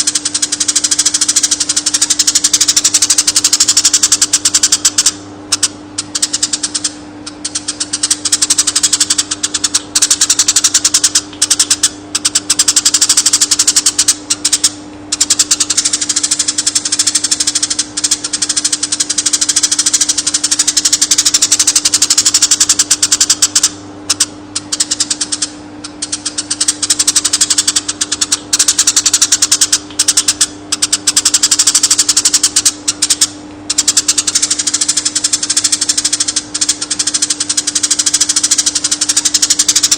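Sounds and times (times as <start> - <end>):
bird singing chattering trill: 0.0 - 39.9
steady low hum: 0.0 - 39.9.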